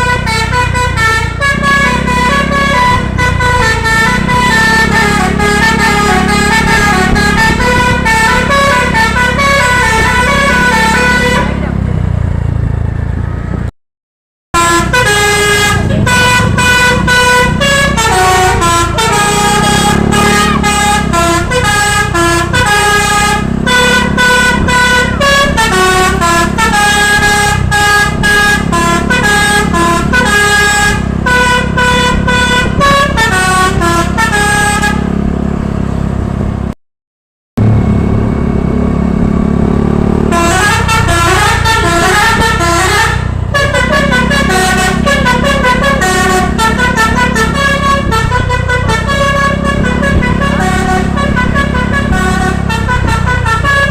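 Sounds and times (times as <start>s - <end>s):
bus horn playing a tune: 0.0s - 11.9s, 14.6s - 36.7s, 37.6s - 53.9s
low rumble of bus: 0.0s - 13.7s, 14.6s - 36.8s, 37.6s - 53.9s.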